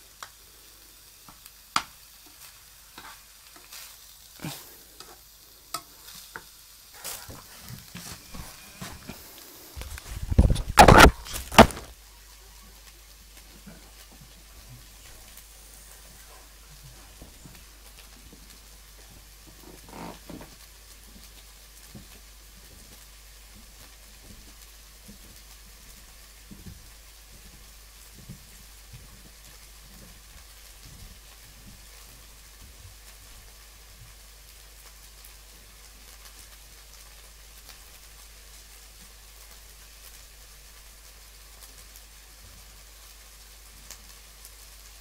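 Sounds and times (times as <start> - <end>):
mince sizzling in a pan: 0.0 - 45.0.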